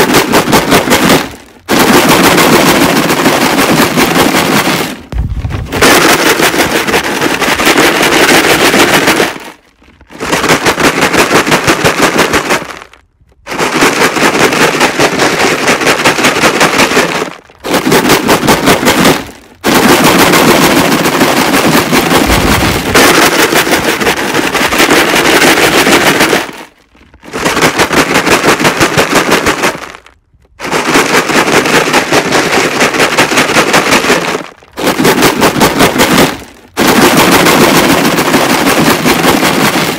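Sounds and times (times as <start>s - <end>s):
rocks rattling in plastic jug: 0.0s - 39.9s.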